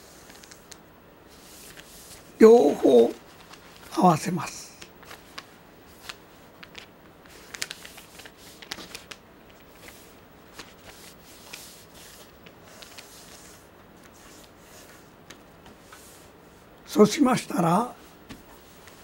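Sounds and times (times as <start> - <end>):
wrapping paper rustling: 0.0 - 16.1.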